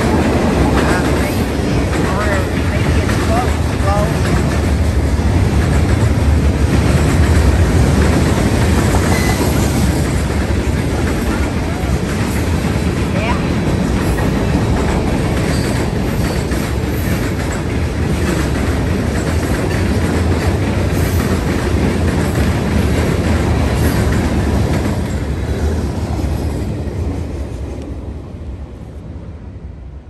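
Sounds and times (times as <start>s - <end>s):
freight train wheels on rails: 0.0s - 30.0s.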